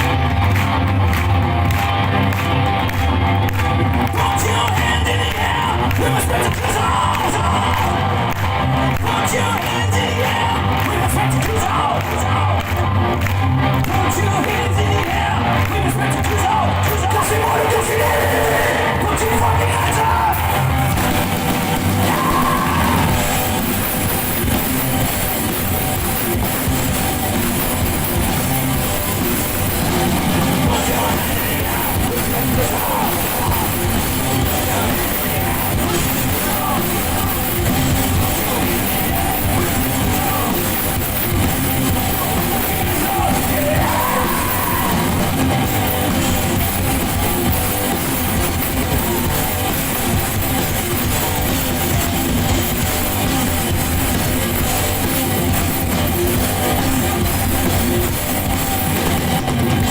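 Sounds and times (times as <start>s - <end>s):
distorted electric guitar: 0.0s - 59.9s
drums: 0.0s - 59.9s
live rock band playing: 0.0s - 59.9s.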